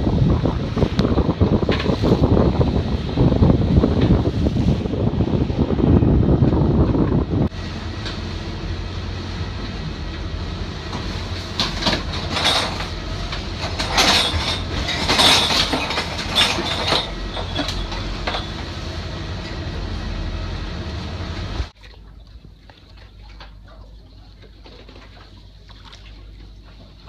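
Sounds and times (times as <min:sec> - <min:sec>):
waves rushing against hulls: 0:00.0 - 0:21.9
low rumble of boat under way: 0:00.0 - 0:27.0.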